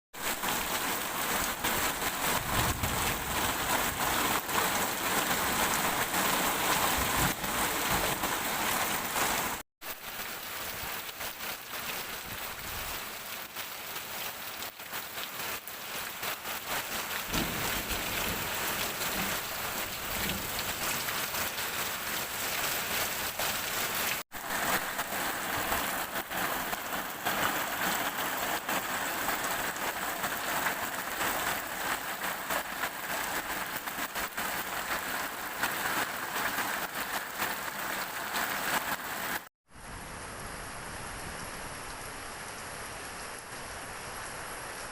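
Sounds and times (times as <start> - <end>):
heavy rain pouring: 0.2 - 44.9.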